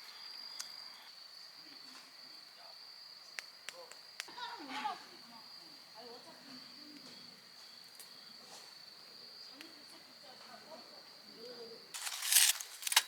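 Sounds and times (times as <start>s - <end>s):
cricket trilling: 0.0s - 13.0s.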